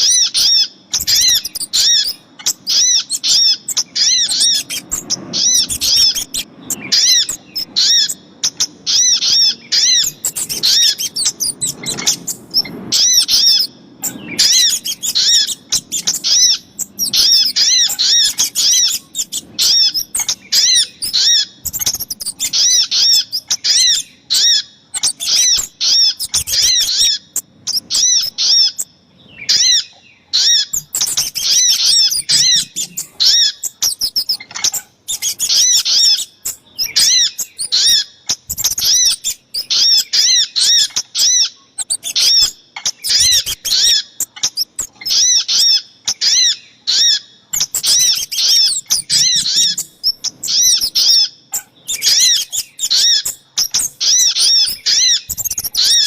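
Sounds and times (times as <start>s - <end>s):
high arched bird chirps: 0.0s - 56.0s.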